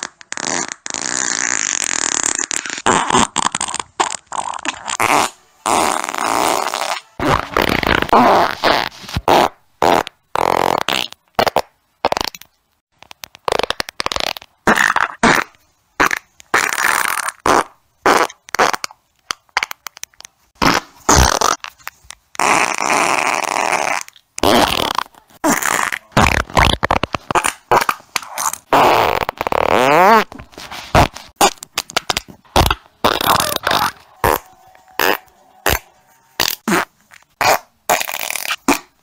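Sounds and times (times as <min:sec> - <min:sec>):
person farting: 0:00.0 - 0:12.4, 0:13.4 - 0:19.0, 0:20.6 - 0:21.7, 0:22.4 - 0:39.0.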